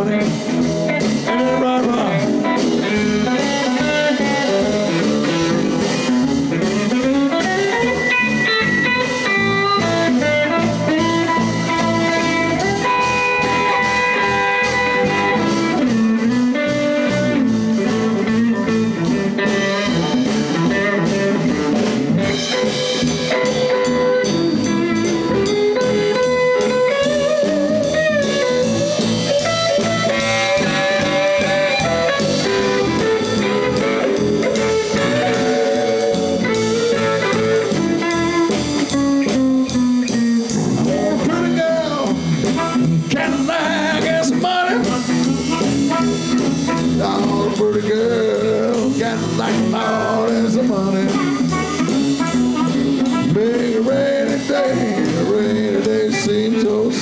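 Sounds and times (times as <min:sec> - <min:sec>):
pitch-bending lead melody: 0:00.0 - 0:47.1
live blues band playing: 0:00.0 - 0:57.0.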